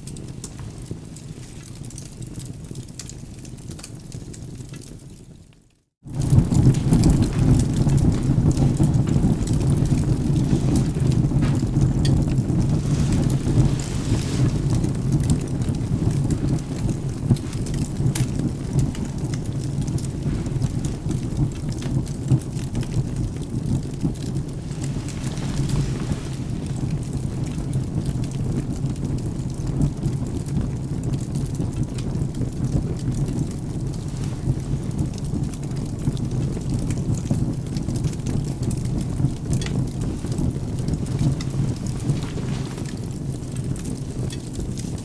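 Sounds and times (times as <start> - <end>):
fire crackling: 0.0 - 45.0
rain: 0.0 - 45.0
thunder rumble: 6.1 - 45.0.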